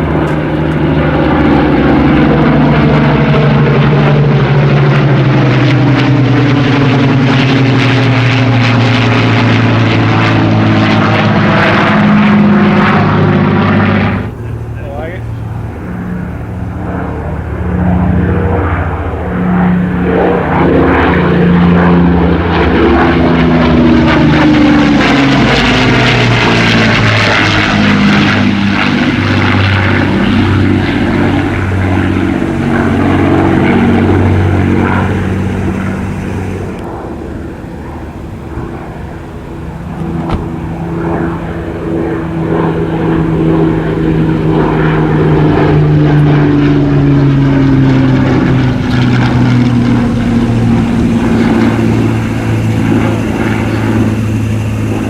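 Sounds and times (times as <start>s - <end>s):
propeller planes droning past: 0.0s - 55.0s.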